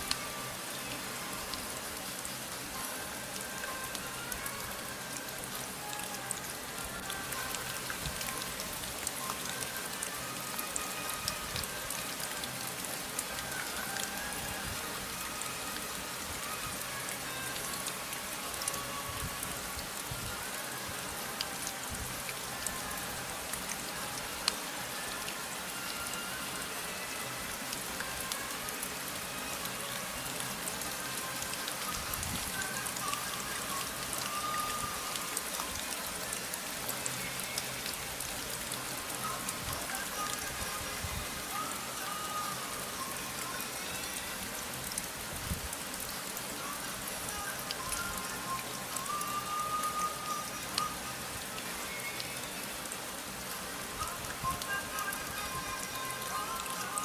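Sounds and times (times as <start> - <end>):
faint music: 0.0 - 57.0
steady rain: 0.0 - 57.0.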